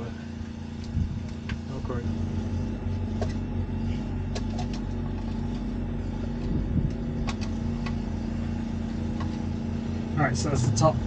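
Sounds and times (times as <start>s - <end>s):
low machinery engine drone: 0.0s - 11.0s.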